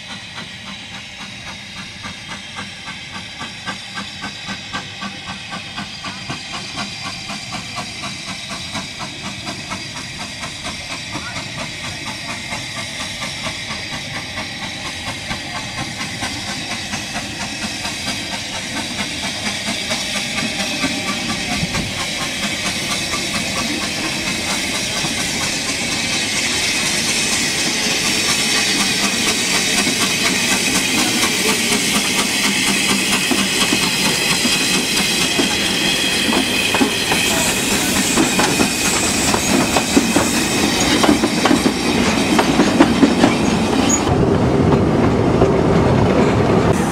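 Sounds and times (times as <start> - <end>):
steam locomotive chuffing: 0.0 - 46.9.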